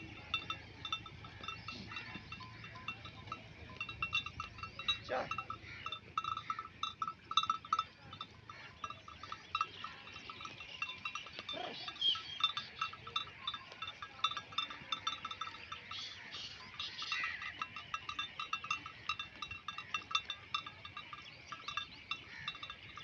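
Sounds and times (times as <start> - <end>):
sheep bells clanking: 0.0 - 23.0.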